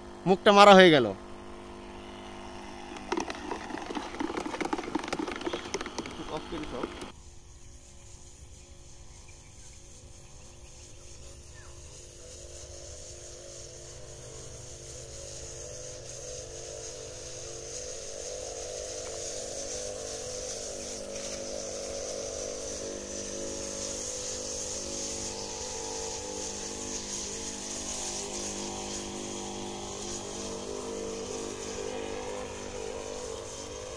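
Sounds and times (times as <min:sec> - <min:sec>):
sprayer motor humming: 0:00.0 - 0:07.2, 0:07.8 - 0:33.9
spray hissing: 0:01.4 - 0:33.9.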